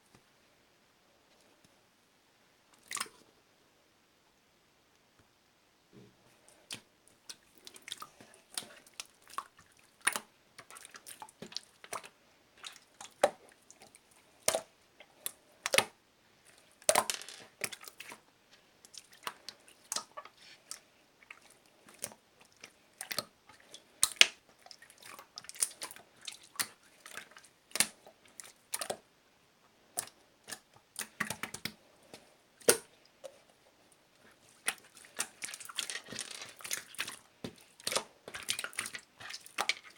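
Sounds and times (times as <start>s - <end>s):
slime wet squelches: 2.7s - 3.2s, 6.4s - 29.1s, 29.8s - 39.9s.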